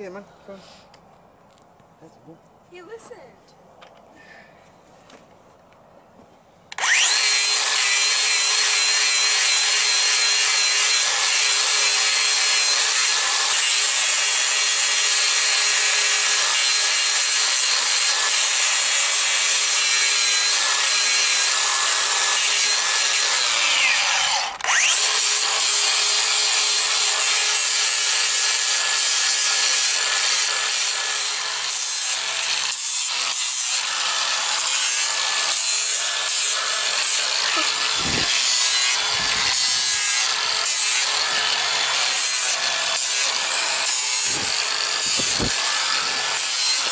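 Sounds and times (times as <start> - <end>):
power grinder whining: 6.7 - 46.9.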